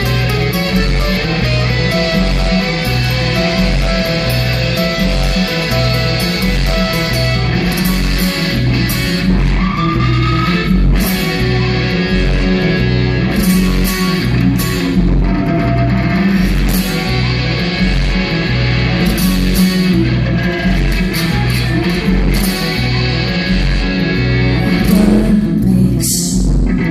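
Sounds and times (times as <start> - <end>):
electric guitar: 0.0 - 26.9
pulsing bass line: 0.0 - 26.9.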